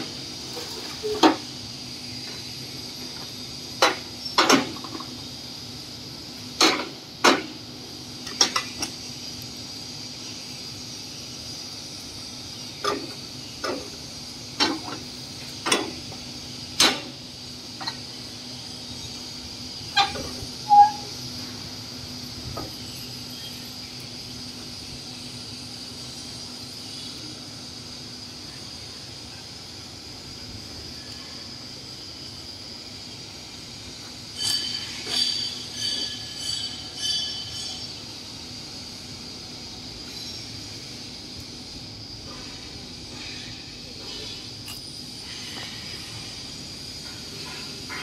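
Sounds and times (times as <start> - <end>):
steady background hum: 0.0 - 48.0.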